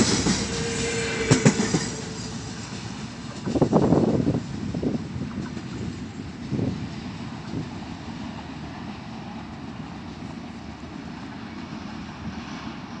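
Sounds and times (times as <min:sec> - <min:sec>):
train wagons rumbling: 0:00.0 - 0:13.0.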